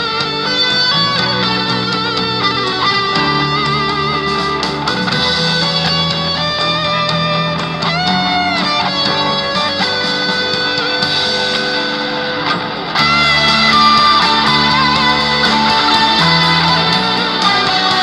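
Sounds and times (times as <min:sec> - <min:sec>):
electric guitar lead melody: 0:00.0 - 0:18.0.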